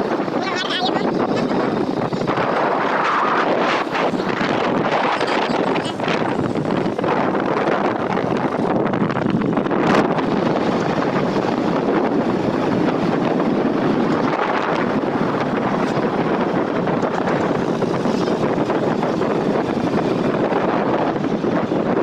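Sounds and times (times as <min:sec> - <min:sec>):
motorcycle running: 0:00.0 - 0:22.0
wind rushing over microphone: 0:00.0 - 0:22.0.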